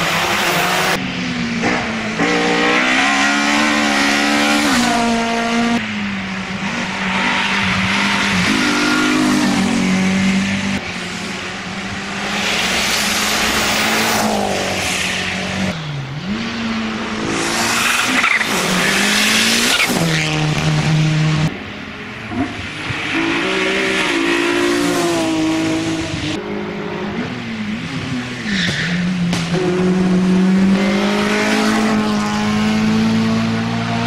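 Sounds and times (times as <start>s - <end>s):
race car engines revving: 0.0s - 34.0s.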